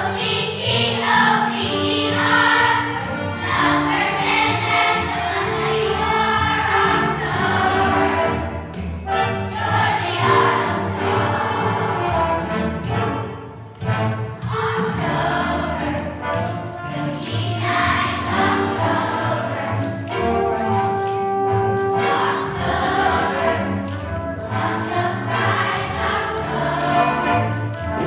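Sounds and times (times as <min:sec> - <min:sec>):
children's choir singing: 0:00.0 - 0:21.1, 0:21.8 - 0:28.0
musical accompaniment: 0:00.0 - 0:28.0.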